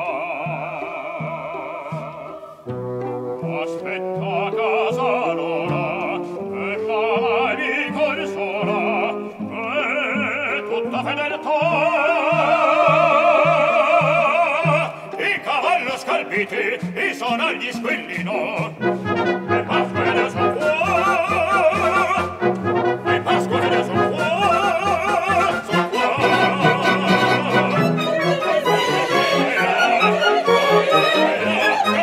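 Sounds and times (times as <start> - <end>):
men singing opera with vibrato: 0.0 - 32.0
orchestral accompaniment: 0.0 - 32.0.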